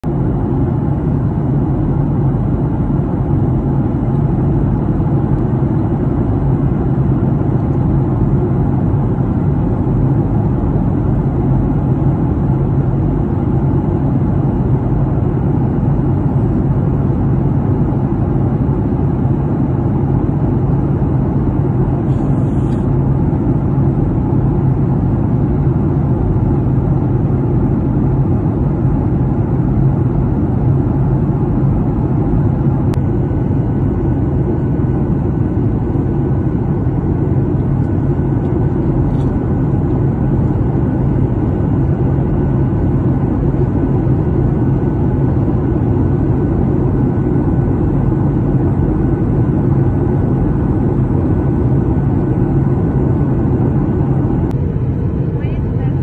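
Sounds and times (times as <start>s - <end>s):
jet engines in cabin: 0.0s - 56.0s.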